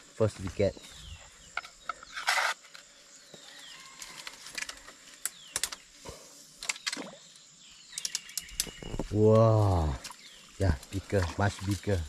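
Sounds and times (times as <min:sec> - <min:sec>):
faint high insect hiss: 0:00.0 - 0:12.0.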